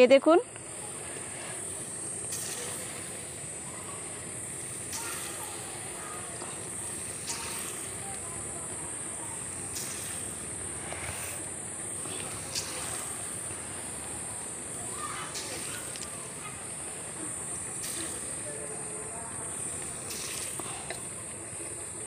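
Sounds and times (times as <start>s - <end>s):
oil sizzling and bubbling: 0.5s - 22.0s.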